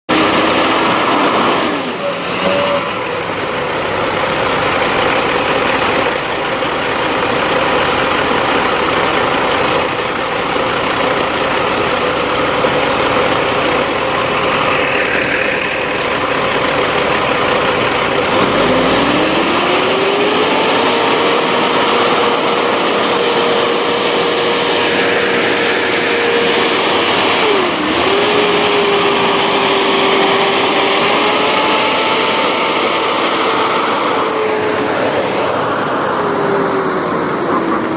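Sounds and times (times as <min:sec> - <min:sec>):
diesel truck engines under load: 0:00.1 - 0:37.9.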